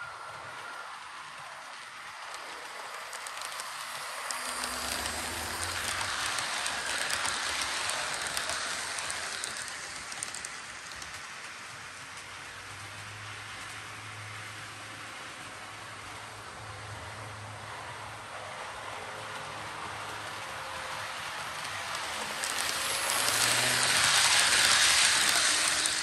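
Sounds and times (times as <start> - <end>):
model train rolling on track: 0.0 - 26.0.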